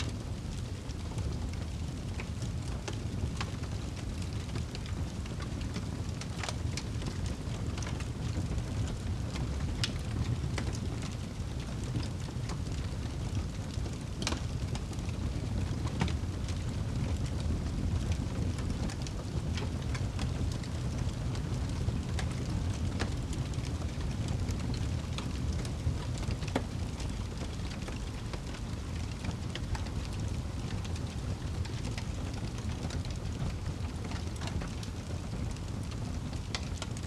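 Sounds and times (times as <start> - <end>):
low rumble of wind: 0.0 - 37.0
wood fire crackling and popping: 0.0 - 37.0.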